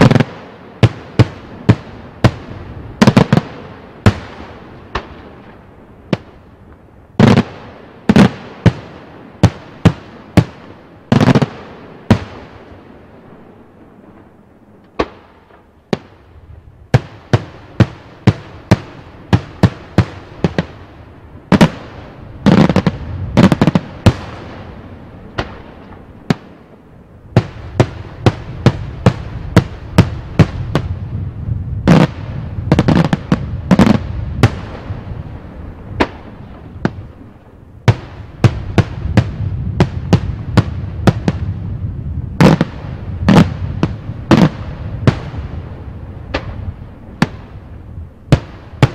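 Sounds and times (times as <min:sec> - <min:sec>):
fireworks bangs: 0:00.0 - 0:14.3, 0:14.9 - 0:48.9.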